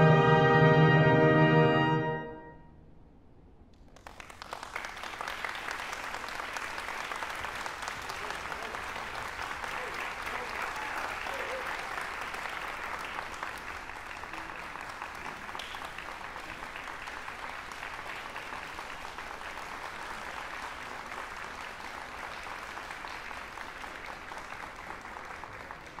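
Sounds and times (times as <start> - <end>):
audience applauding: 3.8 - 26.0.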